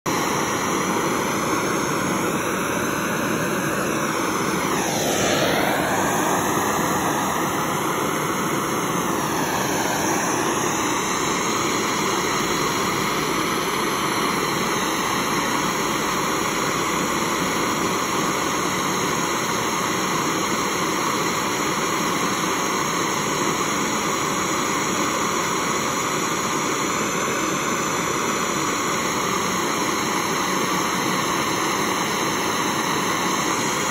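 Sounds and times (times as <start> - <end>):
blowtorch flame hissing: 0.1 - 33.9.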